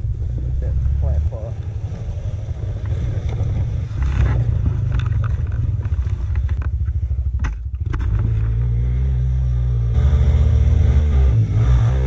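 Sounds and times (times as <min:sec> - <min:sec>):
quad bike engine rumble: 0:00.0 - 0:12.0.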